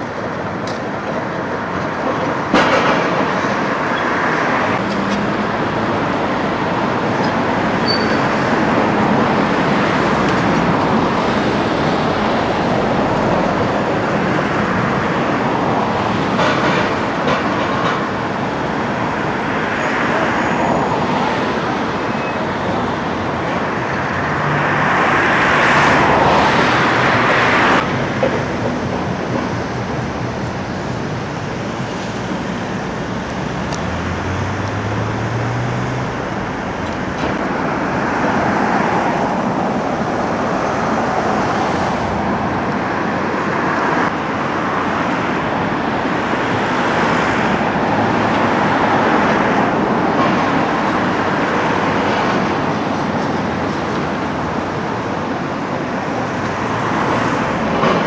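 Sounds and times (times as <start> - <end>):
excavator diesel engines: 0.0 - 58.0.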